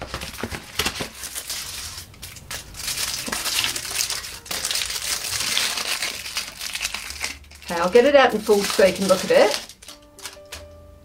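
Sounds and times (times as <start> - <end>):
foil wrapper crinkling: 0.0 - 10.8.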